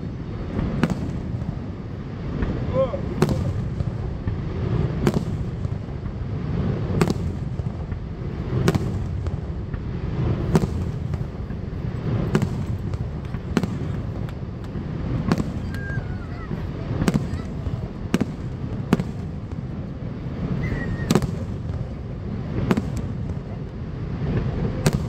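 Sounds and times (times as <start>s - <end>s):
fireworks bursting bangs: 0.0s - 25.0s
steady low rumble: 0.0s - 25.0s.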